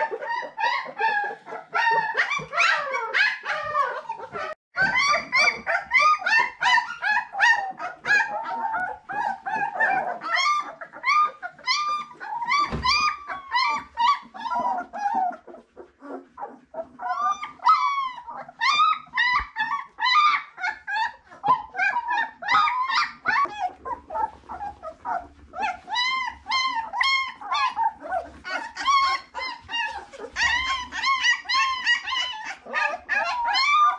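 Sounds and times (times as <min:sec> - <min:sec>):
puppies whining and yelping: 0:00.0 - 0:33.9.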